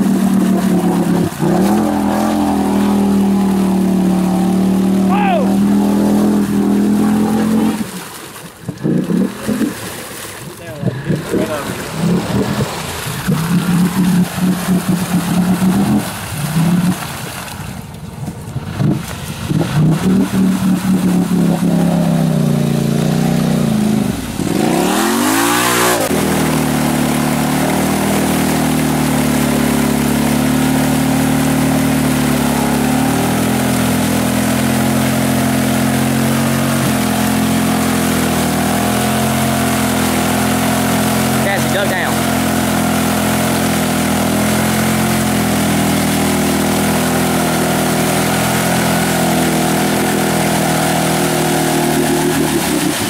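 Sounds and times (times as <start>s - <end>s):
quad engine revving: 0.0s - 8.0s, 8.7s - 10.0s, 10.8s - 17.2s, 18.7s - 53.0s.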